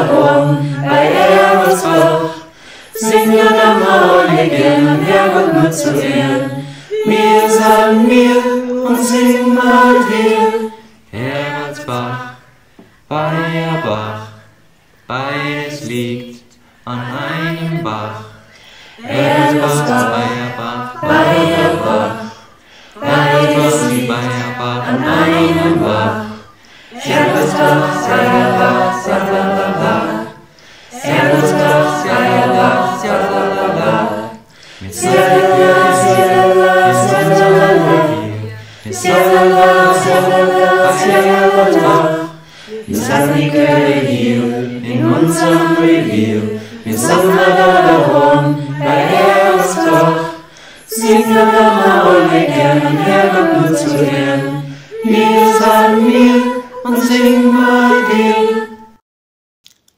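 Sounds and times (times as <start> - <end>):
mixed choir singing unaccompanied: 0.0 - 59.0.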